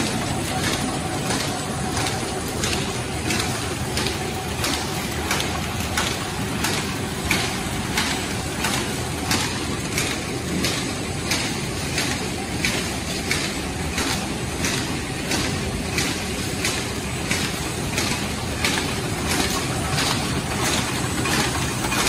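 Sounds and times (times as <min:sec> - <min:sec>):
factory machinery running: 0:00.0 - 0:22.0.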